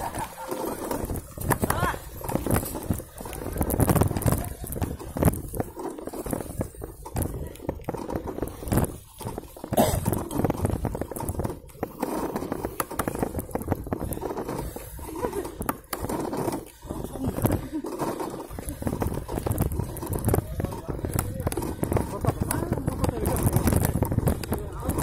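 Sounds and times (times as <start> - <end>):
bicycle rattling over dirt trail: 0.0 - 25.0.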